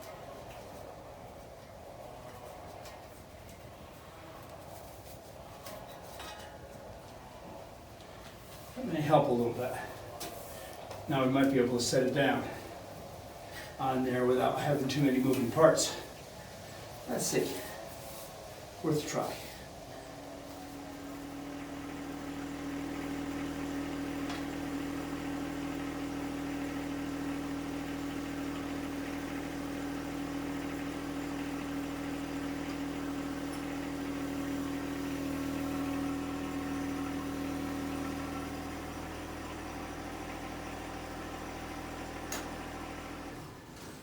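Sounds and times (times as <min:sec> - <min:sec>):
tractor diesel engine running: 0:04.6 - 0:44.0.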